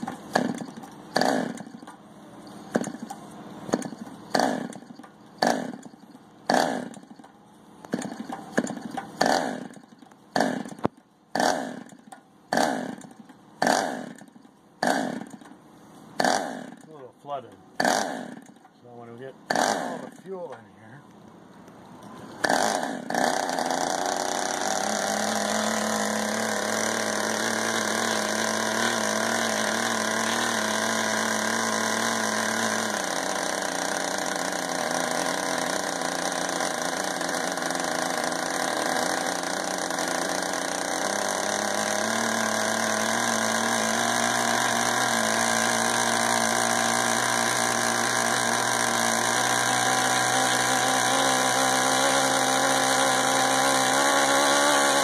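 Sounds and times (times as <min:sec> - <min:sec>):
model engine buzzing: 0:00.0 - 0:07.2, 0:07.8 - 0:15.5, 0:16.2 - 0:16.9, 0:17.8 - 0:18.6, 0:19.5 - 0:20.4, 0:22.3 - 0:55.0.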